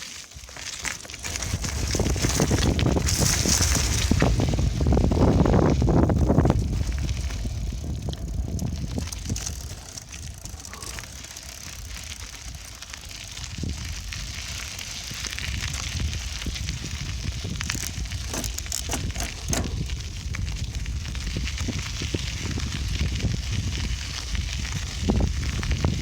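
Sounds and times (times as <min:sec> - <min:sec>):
bicycle tyres rolling: 0:00.0 - 0:26.0
small crackles and rattles: 0:00.0 - 0:26.0
wind buffeting microphone: 0:01.2 - 0:26.0.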